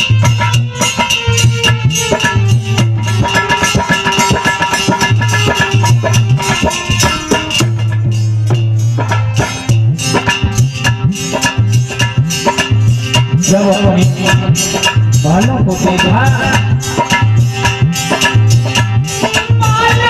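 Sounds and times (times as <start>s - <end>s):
hand drum beating: 0.0s - 20.0s
harmonium playing melody: 0.0s - 20.0s.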